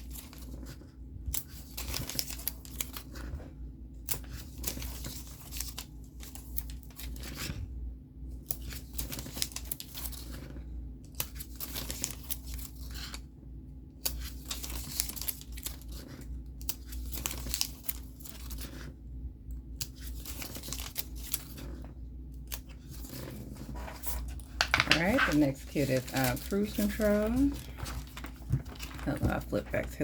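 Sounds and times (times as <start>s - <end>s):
paper rustling and tearing: 0.0s - 3.5s, 4.1s - 7.6s, 8.5s - 13.2s, 14.0s - 19.0s, 19.8s - 30.0s.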